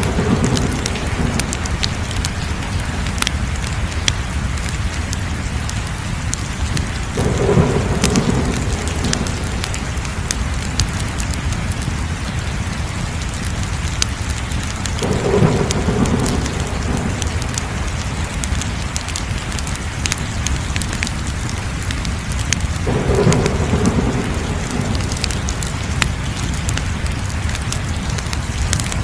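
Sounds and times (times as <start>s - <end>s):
fire crackling and popping: 0.0s - 29.0s
low rumble of burning: 0.0s - 29.0s.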